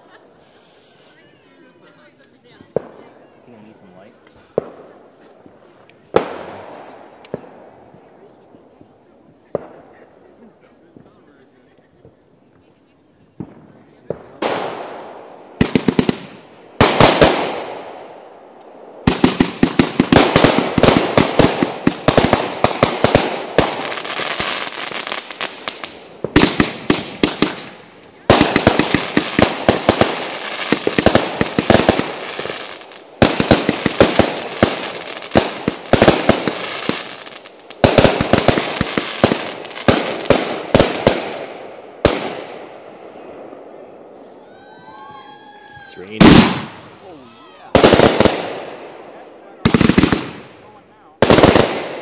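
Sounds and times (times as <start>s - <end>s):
fireworks banging: 2.2s - 11.2s, 13.3s - 44.4s, 46.1s - 47.0s, 47.7s - 52.0s.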